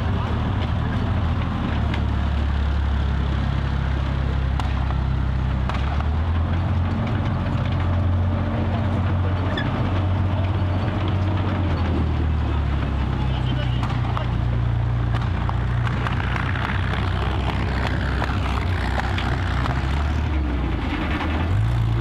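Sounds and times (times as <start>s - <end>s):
tank engine low drone: 0.0s - 22.0s.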